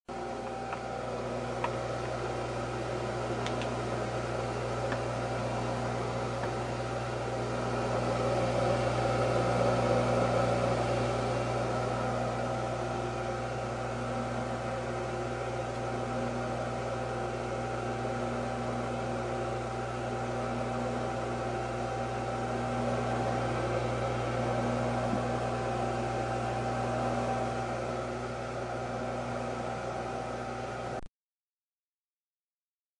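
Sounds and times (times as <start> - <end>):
electric motor hum: 0.1 - 31.0
extraction fan rushing air: 0.2 - 31.0.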